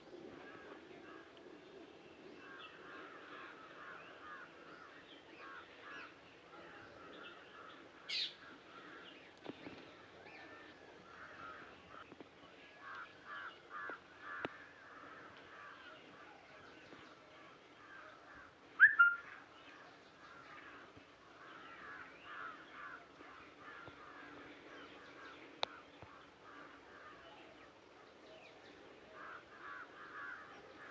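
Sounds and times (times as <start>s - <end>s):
birds calling and chattering: 0.0s - 30.9s.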